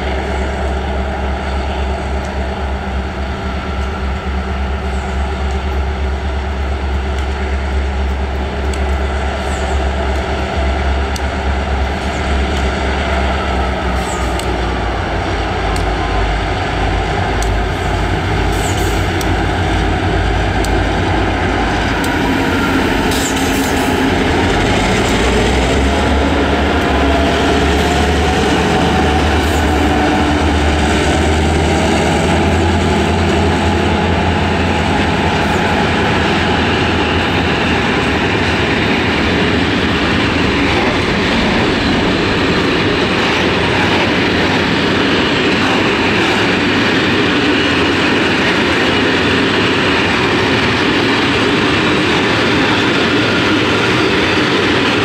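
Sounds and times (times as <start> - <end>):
diesel locomotives deep rumble: 0.0 - 55.0.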